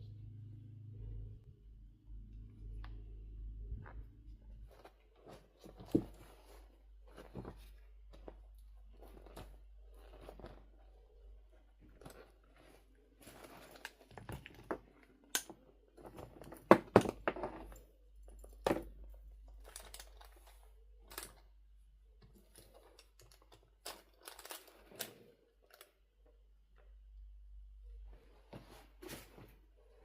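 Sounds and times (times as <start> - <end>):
rustling and crinkling: 2.4 - 30.0.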